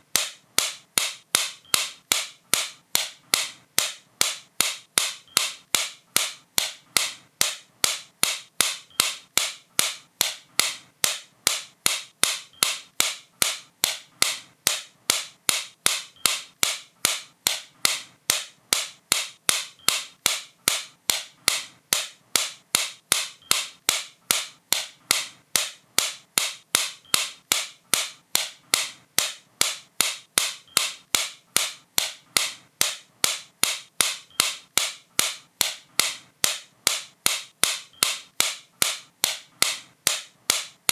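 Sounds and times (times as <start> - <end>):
sharp high-pitched clicks: 0.1 - 40.9.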